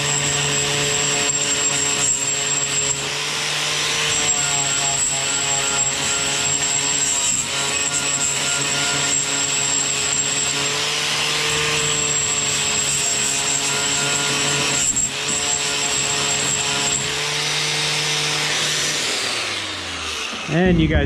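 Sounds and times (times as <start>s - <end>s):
wire wheel grinder on steel: 0.0s - 20.7s.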